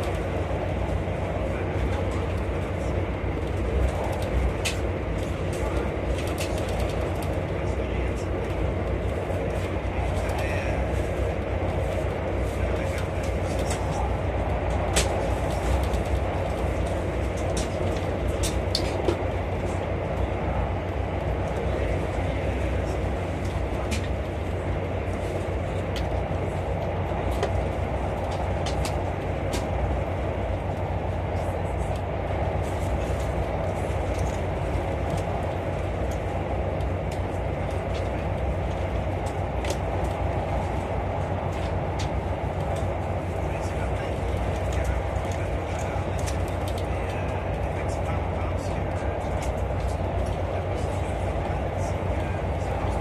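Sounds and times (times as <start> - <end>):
train rumble inside coach: 0.0 - 53.0.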